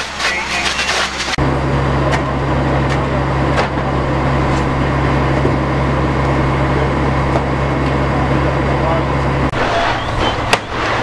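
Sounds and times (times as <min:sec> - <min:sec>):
diesel engine idling: 0:01.2 - 0:11.0.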